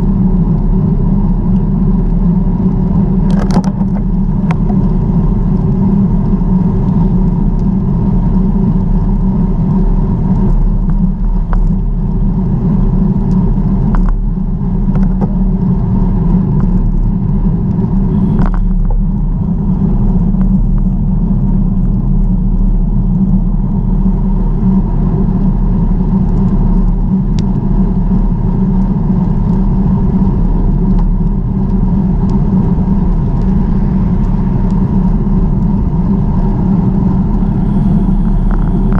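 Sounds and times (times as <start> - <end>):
wind and bicycle ride rumble: 0.0 - 38.9.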